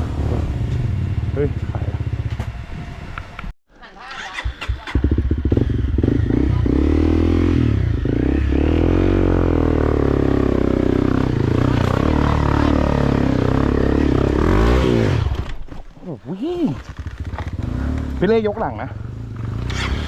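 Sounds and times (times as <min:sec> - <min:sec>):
motorcycle engine revving: 0:00.0 - 0:03.4, 0:04.2 - 0:15.7, 0:16.4 - 0:20.0.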